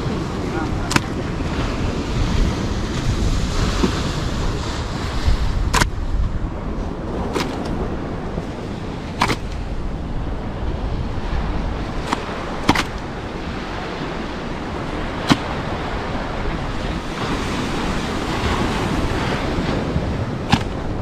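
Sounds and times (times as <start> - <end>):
sea surf washing onto a beach: 0.0 - 21.0.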